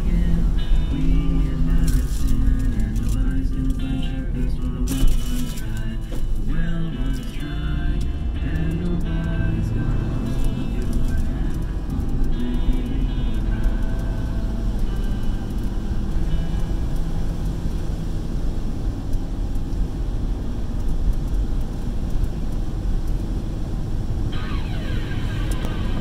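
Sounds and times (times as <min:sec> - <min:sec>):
car driving through water: 0:00.0 - 0:26.0.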